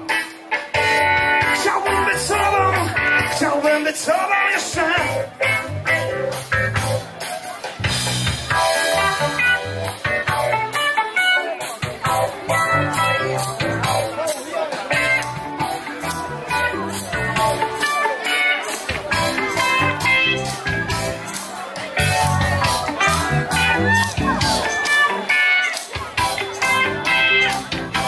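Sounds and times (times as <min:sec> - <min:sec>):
guitar: 0:00.0 - 0:28.0
drum beat: 0:04.6 - 0:28.0.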